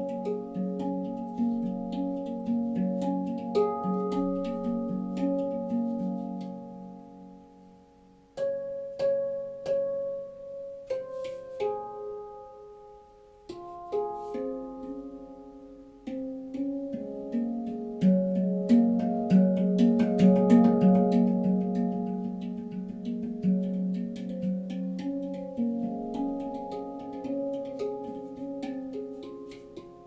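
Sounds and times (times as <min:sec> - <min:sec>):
handpan played by hand: 0:00.0 - 0:30.0.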